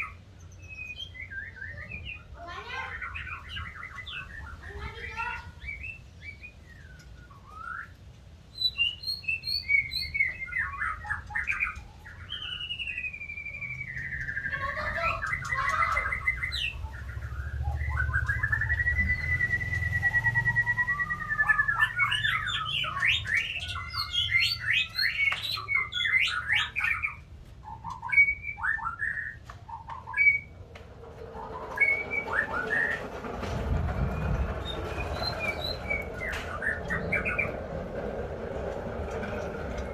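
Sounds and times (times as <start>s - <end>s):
bird singing whistles and trills: 0.0s - 38.1s.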